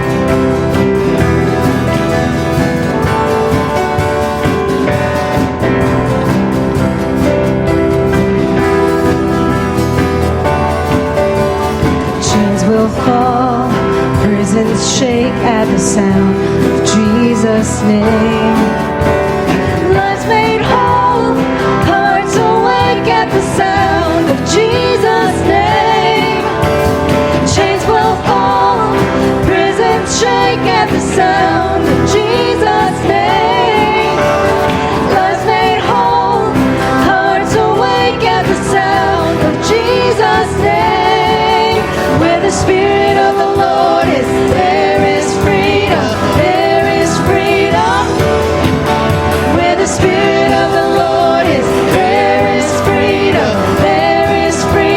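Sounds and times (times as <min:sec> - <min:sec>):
band accompaniment: 0:00.0 - 0:54.9
worship song singing: 0:00.0 - 0:54.9.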